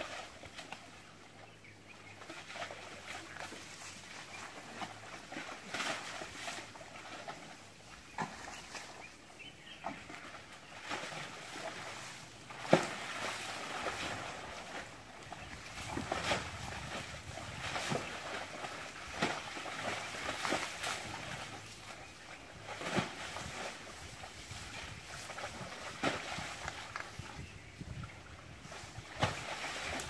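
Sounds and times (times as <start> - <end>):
mud sloshing and splashing: 2.1 - 9.1, 9.7 - 27.2.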